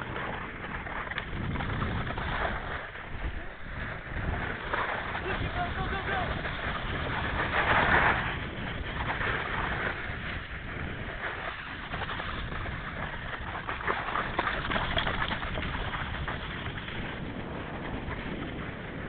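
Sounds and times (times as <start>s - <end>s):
board scraping over snow: 0.0s - 19.0s.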